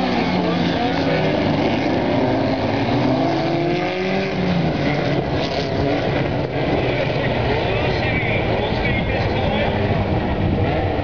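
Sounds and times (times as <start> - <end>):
racing car engines accelerating: 0.0 - 11.0.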